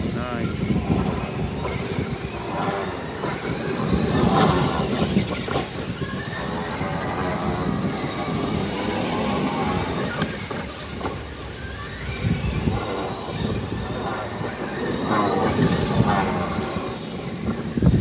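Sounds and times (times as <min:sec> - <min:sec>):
drivetrain and tyre noise: 0:00.0 - 0:18.0
electric motor whine: 0:00.0 - 0:18.0.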